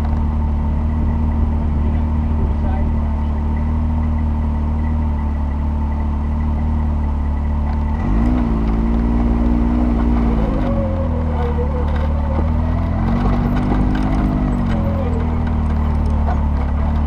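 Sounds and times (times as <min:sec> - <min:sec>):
vehicle engine idling and revving: 0:00.0 - 0:17.0.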